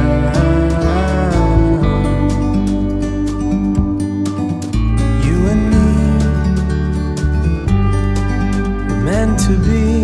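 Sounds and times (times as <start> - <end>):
country song with acoustic guitar: 0.0 - 10.0.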